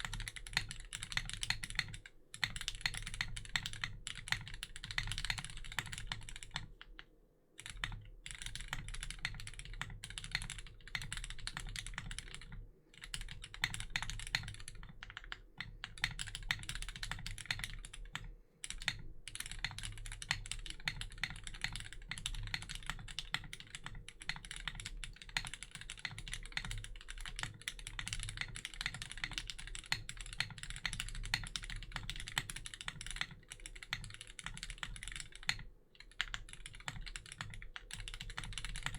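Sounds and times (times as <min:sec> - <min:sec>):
mechanical keyboard typing: 0:00.0 - 0:07.0, 0:07.6 - 0:38.9.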